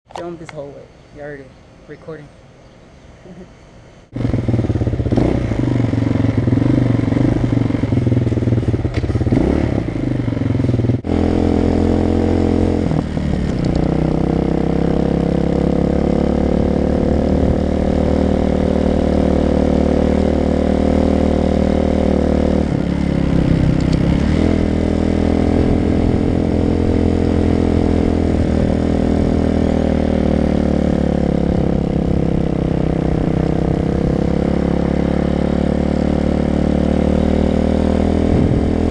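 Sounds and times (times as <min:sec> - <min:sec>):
motorcycle engine running: 0:04.1 - 0:38.9.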